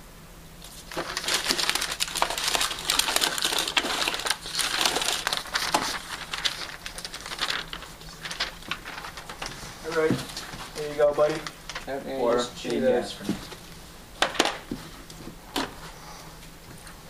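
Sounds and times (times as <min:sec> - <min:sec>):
crinkling and rustling: 0:00.6 - 0:16.0.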